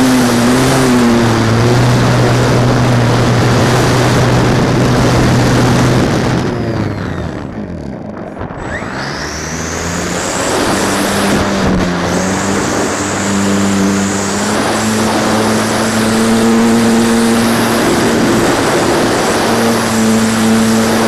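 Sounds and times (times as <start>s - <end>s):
model plane motor buzzing: 0.0s - 21.0s
wind noise on microphone: 0.0s - 21.0s.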